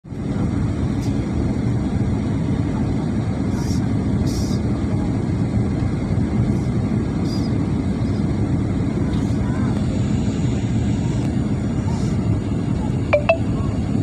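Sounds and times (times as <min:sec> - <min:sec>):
airliner cabin rumble: 0:00.1 - 0:14.0.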